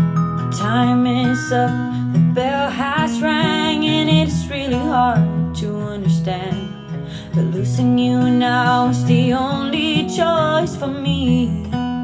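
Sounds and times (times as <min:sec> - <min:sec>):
acoustic guitar: 0:00.0 - 0:12.0
person singing: 0:00.5 - 0:12.0.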